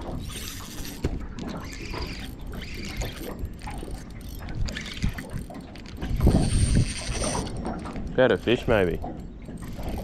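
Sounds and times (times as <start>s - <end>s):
fishing reel whirring and clicking: 0.0s - 10.0s.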